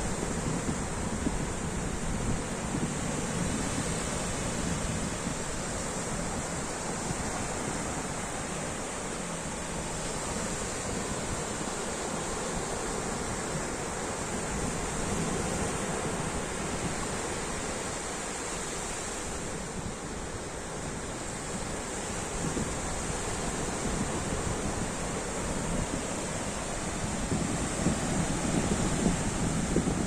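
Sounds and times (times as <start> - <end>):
ocean waves breaking: 0.0 - 30.0.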